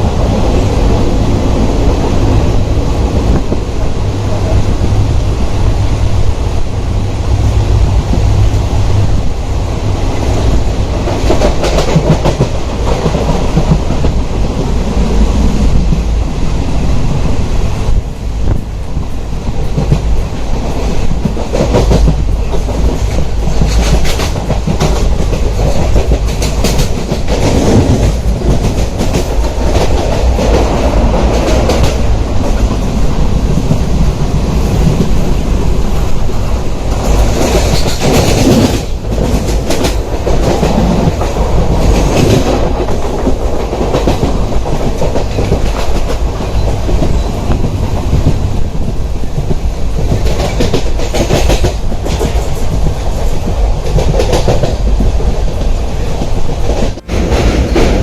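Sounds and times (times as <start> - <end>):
train rumbling along track: 0.0 - 58.0.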